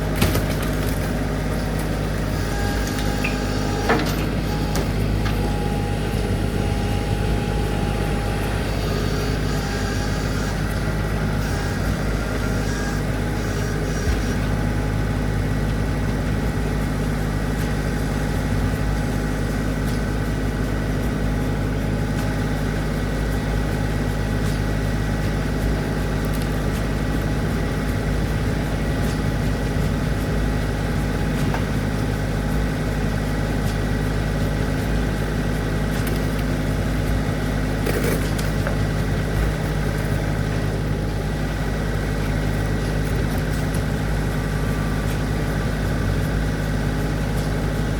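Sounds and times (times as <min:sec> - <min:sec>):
engine idling: 0:00.0 - 0:47.9.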